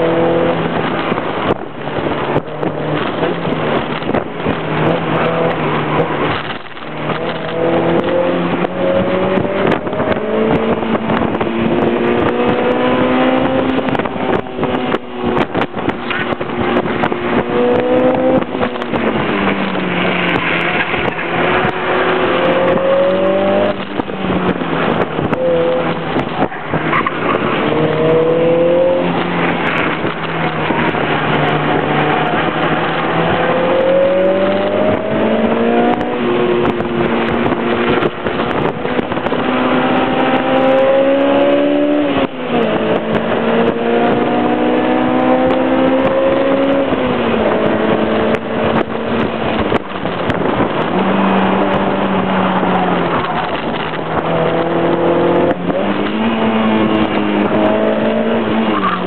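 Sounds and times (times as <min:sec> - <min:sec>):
car engine revving: 0:00.0 - 0:59.0
wind and road noise: 0:00.0 - 0:59.0.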